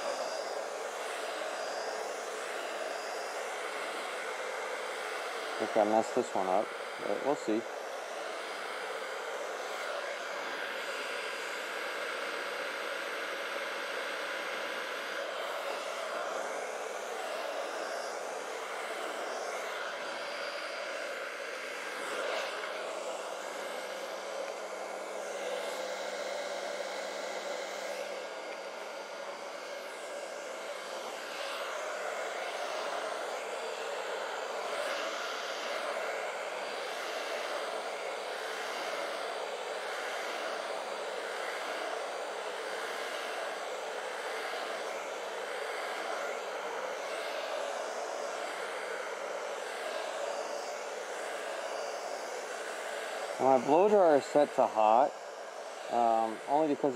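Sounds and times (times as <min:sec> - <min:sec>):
hair dryer blowing: 0:00.0 - 0:56.9.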